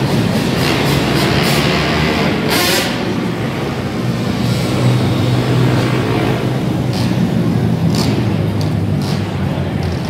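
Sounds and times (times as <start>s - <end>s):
dirt bike engines droning: 0.0s - 10.0s.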